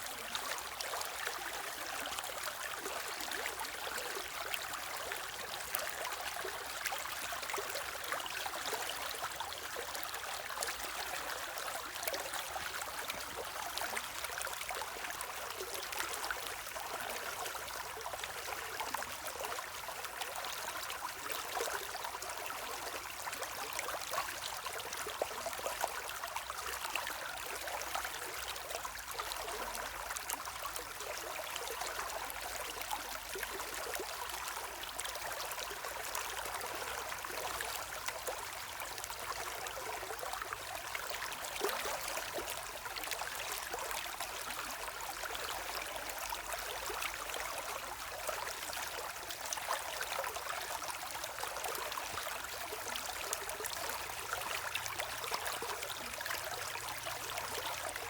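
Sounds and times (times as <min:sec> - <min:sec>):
stream running over stones: 0:00.0 - 0:58.0.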